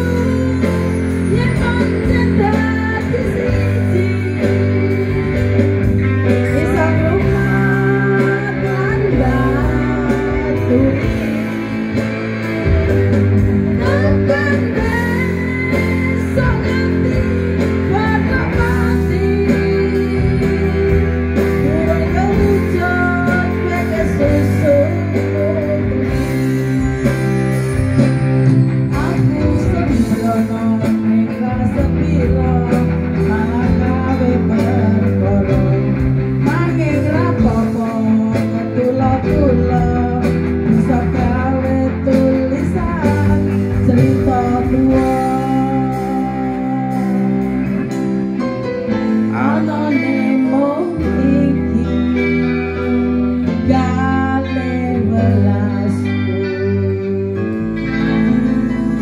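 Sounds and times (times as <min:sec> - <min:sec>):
keyboard guitar and bass backing: 0:00.0 - 0:59.0
woman singing into microphone: 0:00.0 - 0:59.0.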